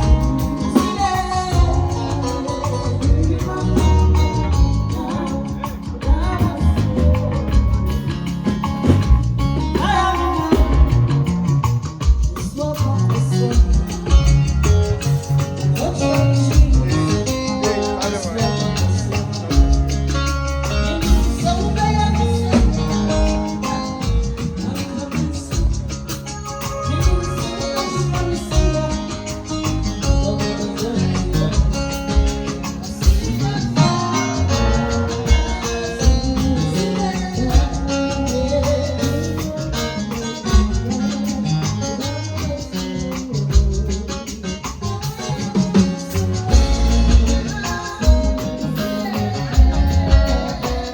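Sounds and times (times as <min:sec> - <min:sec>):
drum beat: 0:00.0 - 0:38.0, 0:45.0 - 0:50.9
guitar: 0:00.0 - 0:50.9
person singing: 0:00.0 - 0:50.9
shaker-like percussion: 0:00.0 - 0:50.9
strong bass line: 0:00.0 - 0:50.9
upbeat band music: 0:00.0 - 0:50.9.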